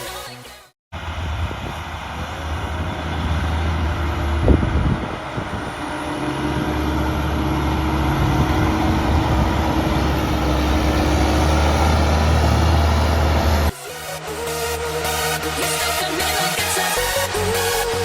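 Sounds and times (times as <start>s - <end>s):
diesel farm machinery engines: 1.0s - 18.0s.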